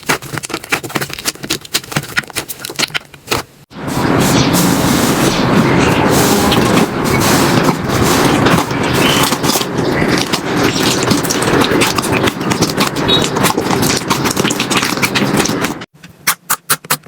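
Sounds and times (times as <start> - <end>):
slime squishing and crackling: 0.0 - 3.6, 4.2 - 15.9.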